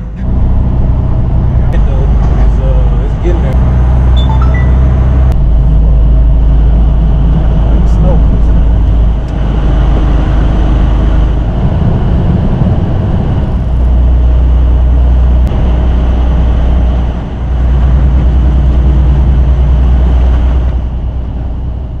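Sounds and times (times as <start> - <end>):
road noise: 0.0 - 22.0
truck engine drone: 0.0 - 22.0.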